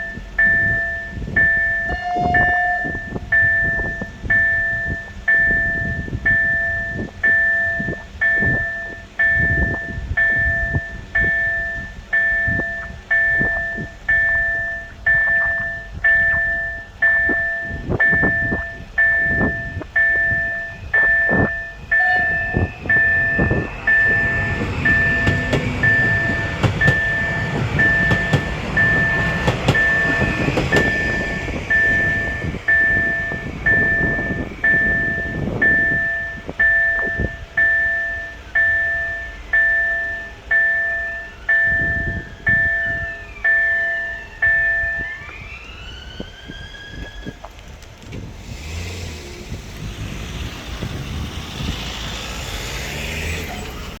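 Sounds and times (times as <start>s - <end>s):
level crossing warning tone: 0.0s - 47.4s
electric train passing: 0.0s - 54.0s
train wheels clicking over rail joints: 5.3s - 44.0s, 47.2s - 54.0s.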